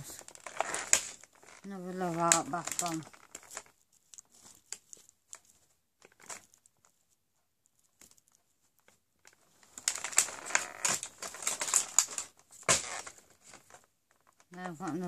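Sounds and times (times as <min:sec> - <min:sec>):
plastic packaging crinkling: 0:00.0 - 0:07.1, 0:07.8 - 0:15.0.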